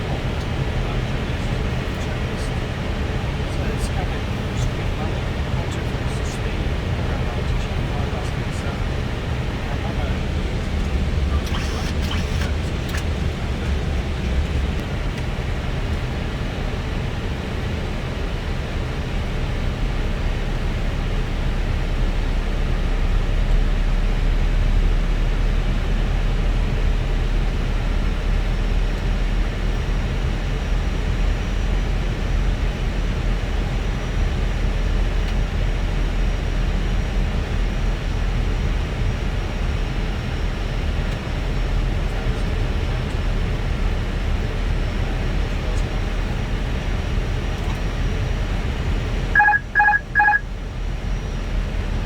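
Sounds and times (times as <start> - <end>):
rushing airflow with deep rumble: 0.0 - 49.4.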